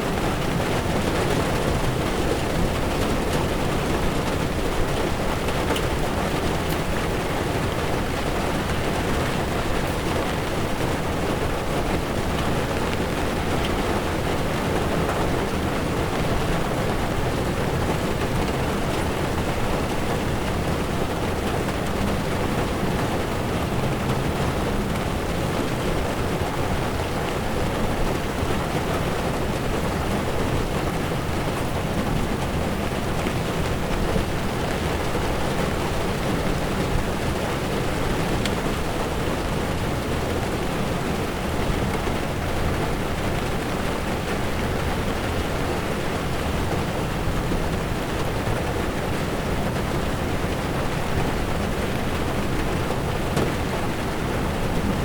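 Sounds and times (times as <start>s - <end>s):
heavy rain on windshield: 0.0s - 55.0s
tyres on wet road: 0.0s - 55.0s.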